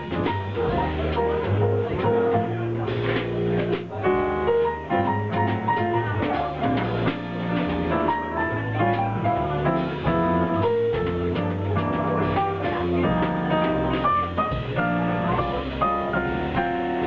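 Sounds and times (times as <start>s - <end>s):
bass line: 0.0s - 17.0s
light drums: 0.0s - 17.0s.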